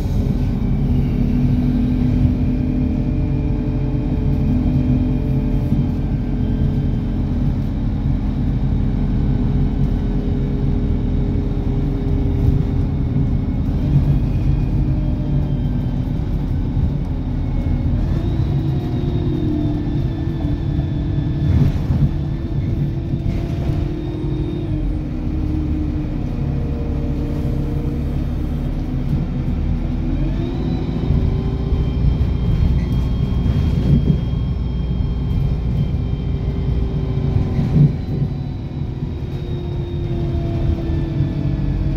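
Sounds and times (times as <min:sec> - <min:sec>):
road rumble inside car: 0:00.0 - 0:41.9.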